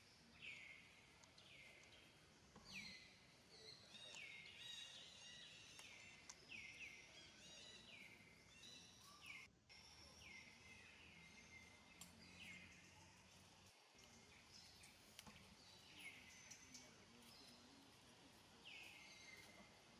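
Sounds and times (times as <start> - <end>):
faint birds calling: 0.0 - 17.9
quiet background hum: 0.0 - 19.9.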